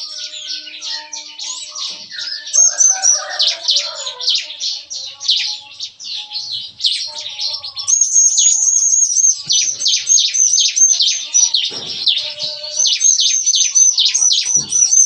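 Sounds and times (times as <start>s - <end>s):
bird singing rapid chirps: 0.0s - 15.0s.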